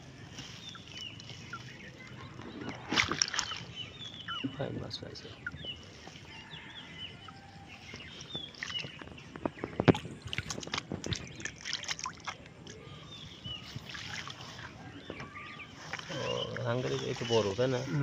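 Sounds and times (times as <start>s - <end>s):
small birds chirping: 0.0s - 18.0s
water splashing and sloshing: 0.0s - 18.0s.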